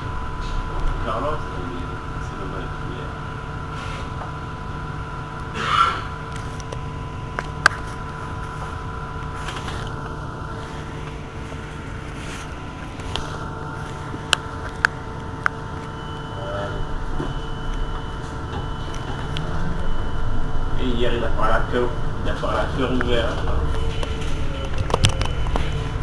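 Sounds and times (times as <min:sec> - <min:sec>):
electric bus hum with tones: 0:00.0 - 0:26.0.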